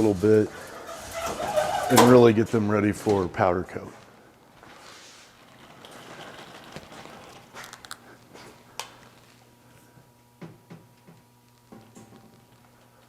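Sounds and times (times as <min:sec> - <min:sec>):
steady low hum: 0:02.1 - 0:13.0.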